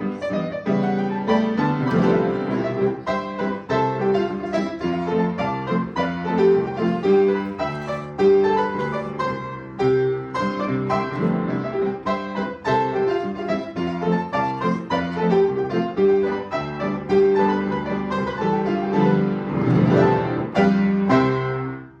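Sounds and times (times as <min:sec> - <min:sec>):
solo piano playing: 0:00.0 - 0:22.0.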